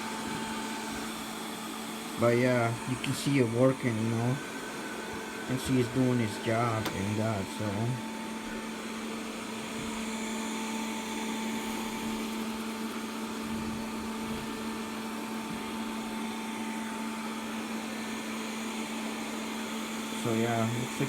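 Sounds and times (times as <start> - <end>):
robot vacuum cleaner running: 0.0 - 21.0.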